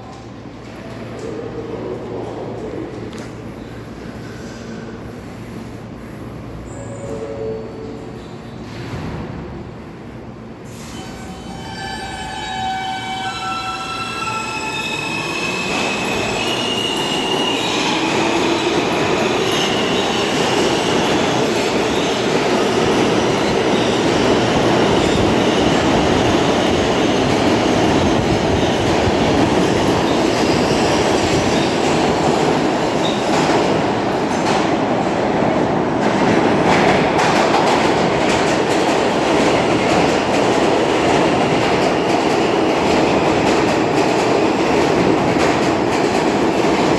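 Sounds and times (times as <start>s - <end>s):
rumble of wheels on rail: 0.0s - 46.9s
subway train propulsion whine: 0.0s - 46.9s.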